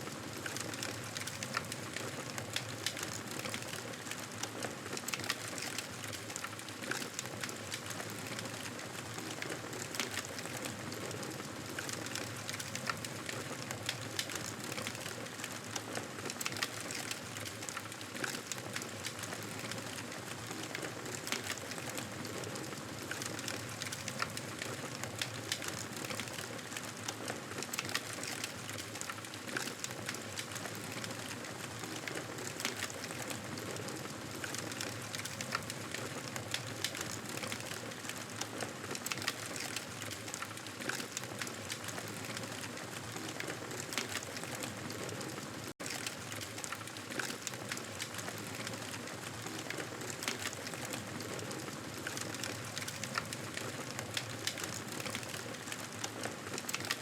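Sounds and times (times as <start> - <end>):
campfire crackling and popping: 0.4 - 57.0.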